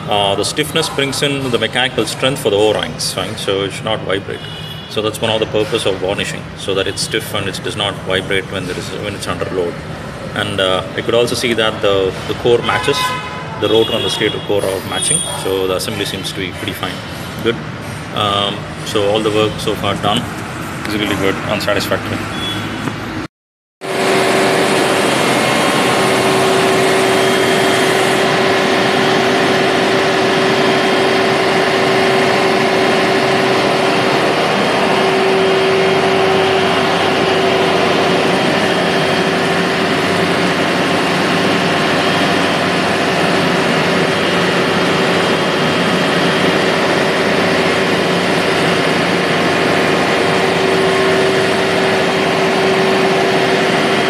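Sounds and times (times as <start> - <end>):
diesel generator engine drone: 0.0 - 54.0
steady hum: 0.0 - 54.0.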